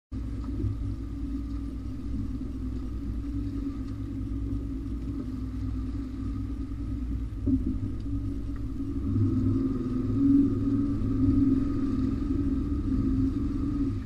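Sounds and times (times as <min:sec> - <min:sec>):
outboard motor droning: 0:00.1 - 0:14.0
faint high whine: 0:00.2 - 0:14.0.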